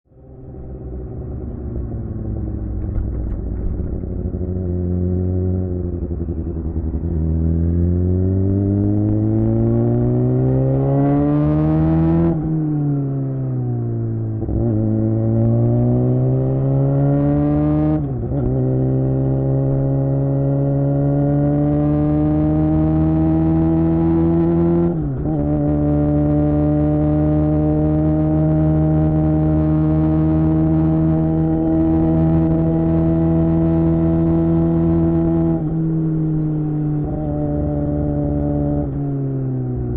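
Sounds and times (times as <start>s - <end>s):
motorcycle engine accelerating: 0.1s - 39.9s.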